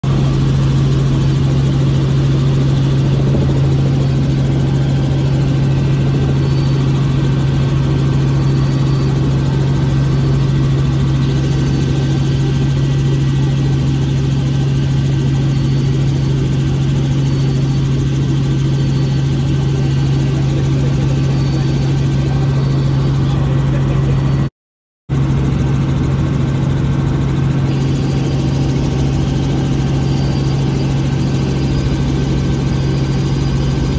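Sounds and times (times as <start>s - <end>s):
helicopter rotor drone: 0.0s - 24.5s, 25.1s - 33.9s.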